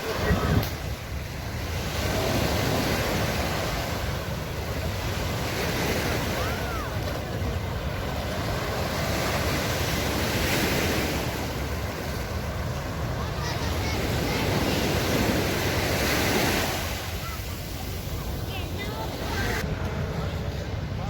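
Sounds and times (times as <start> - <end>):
surf washing onto beach: 0.0 - 21.0
wind buffeting microphone: 0.0 - 21.0.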